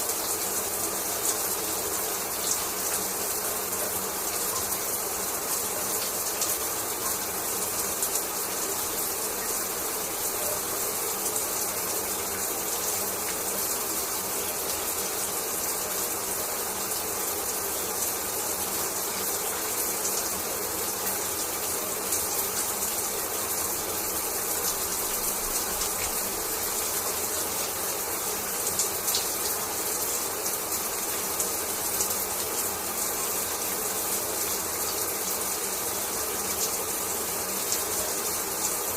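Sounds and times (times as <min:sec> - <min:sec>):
shower water splashing: 0:00.0 - 0:38.9.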